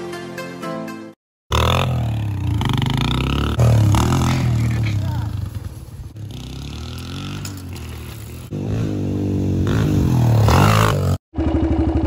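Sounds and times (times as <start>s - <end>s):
dirt bike engine revving: 1.5s - 12.0s.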